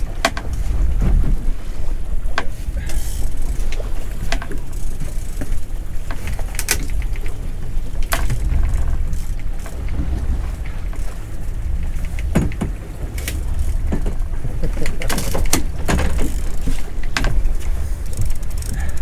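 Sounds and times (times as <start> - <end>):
outboard motor running: 0.0 - 19.0
water and wind: 0.0 - 19.0.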